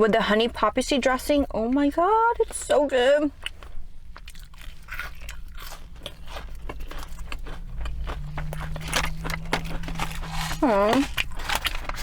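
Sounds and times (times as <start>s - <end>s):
person chewing crunchy food: 1.3s - 12.0s.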